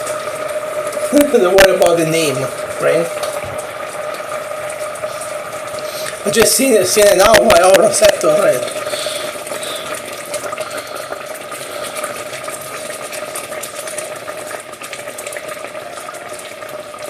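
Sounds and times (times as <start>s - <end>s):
risotto bubbling in a pan: 0.0s - 17.0s.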